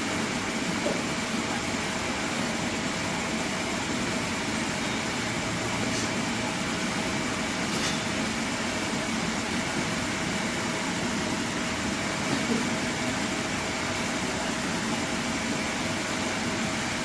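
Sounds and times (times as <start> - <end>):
machine hum and hiss: 0.0 - 17.0.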